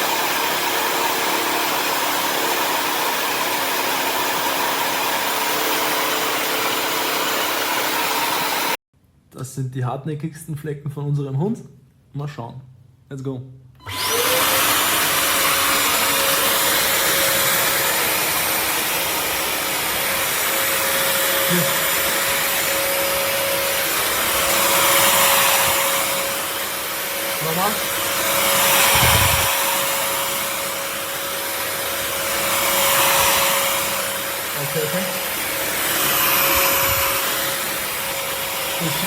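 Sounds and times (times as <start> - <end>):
vacuum mop motor whine: 0.0 - 8.8, 13.8 - 39.0.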